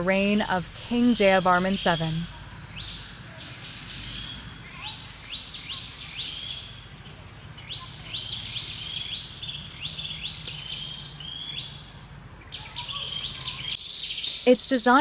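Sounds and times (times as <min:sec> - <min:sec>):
bird singing: 0:00.0 - 0:15.0.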